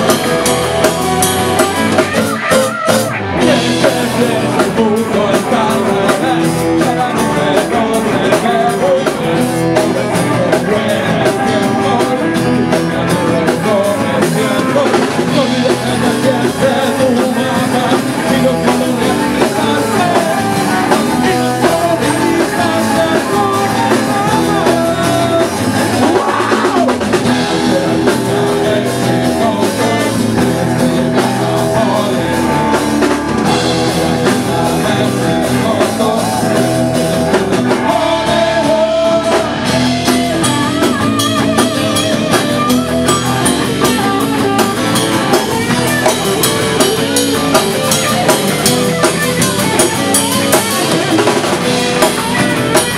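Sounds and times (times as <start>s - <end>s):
acoustic guitar strumming: 0.0s - 52.9s
bass guitar: 0.0s - 52.9s
drum kit: 0.0s - 52.9s
electric guitar: 0.0s - 52.9s
man singing into a microphone: 2.0s - 52.9s.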